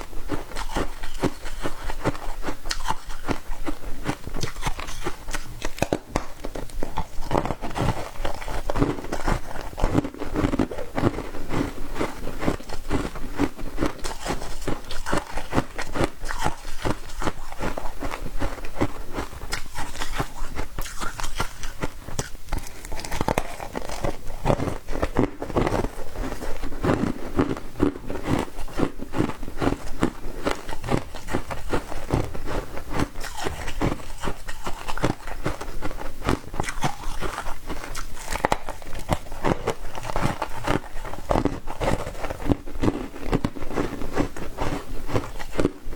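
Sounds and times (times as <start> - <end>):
ice being chewed: 0.0 - 45.9.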